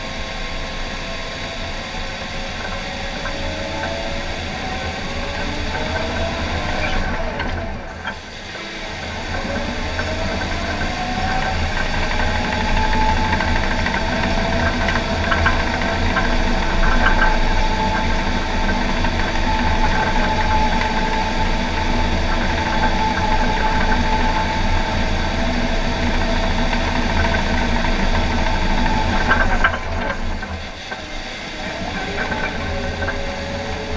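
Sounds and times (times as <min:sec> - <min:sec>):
dozer diesel engine running: 0:00.0 - 0:33.9
rising whine: 0:00.0 - 0:33.9.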